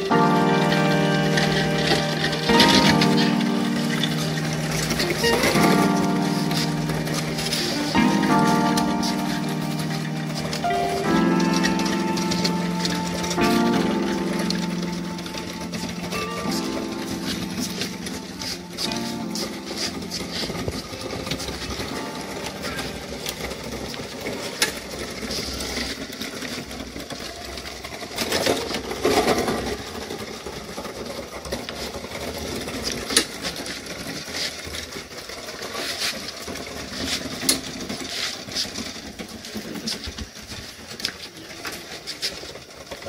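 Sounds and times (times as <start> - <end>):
wooden toy wheels rattling on concrete: 0.0 - 43.0.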